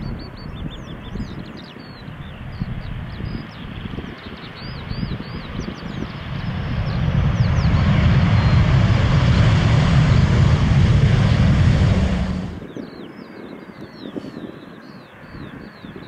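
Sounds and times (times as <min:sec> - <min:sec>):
airliner flying past: 0:00.2 - 0:16.0.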